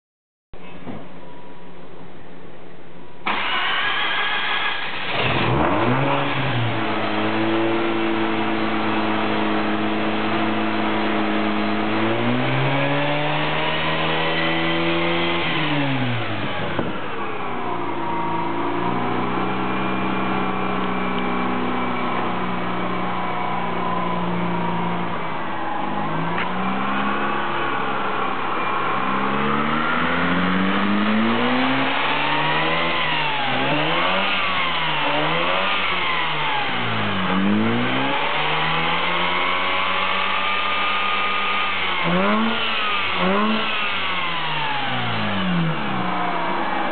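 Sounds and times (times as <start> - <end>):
rotary engine starting and revving: 3.3 - 23.8, 24.5 - 46.9.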